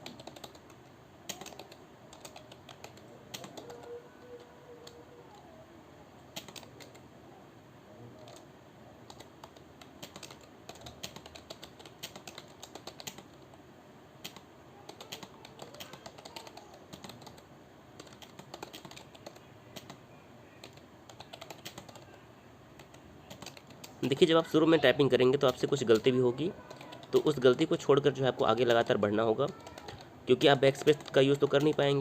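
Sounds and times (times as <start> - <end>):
keyboard typing: 0.0 - 5.4, 6.3 - 7.0, 8.2 - 13.6, 14.2 - 20.0, 20.6 - 22.2, 22.8 - 24.4, 25.4 - 27.9, 28.5 - 32.0.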